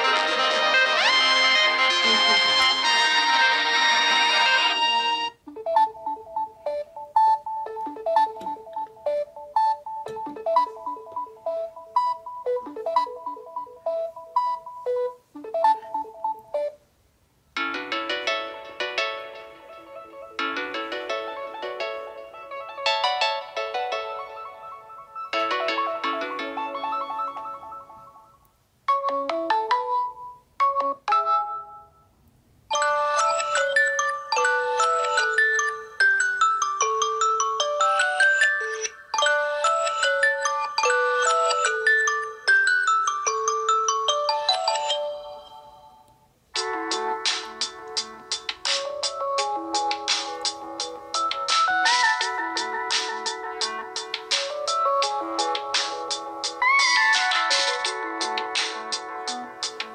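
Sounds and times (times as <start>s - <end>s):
busier ringtone tune: 0.0s - 16.8s, 17.6s - 32.1s, 32.7s - 59.9s
phone ringtone melody: 0.0s - 16.8s, 17.6s - 32.1s, 32.7s - 59.9s.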